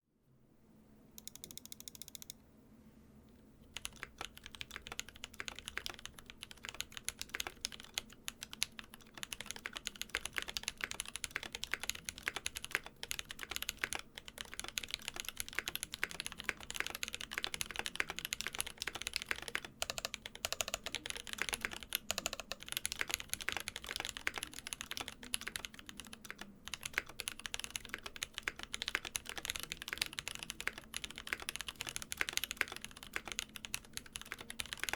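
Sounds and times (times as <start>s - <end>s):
mechanical keyboard typing: 1.2s - 2.4s, 3.7s - 34.9s.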